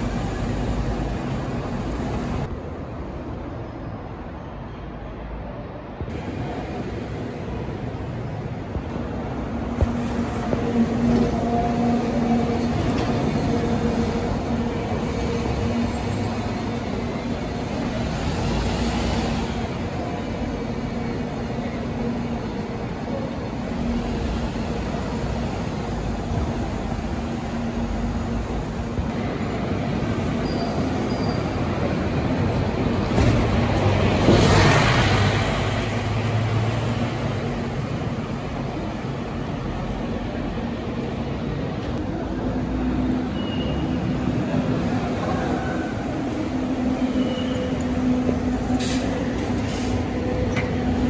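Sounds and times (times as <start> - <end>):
bus engine hum: 0.0 - 51.0
traffic noise: 0.0 - 51.0.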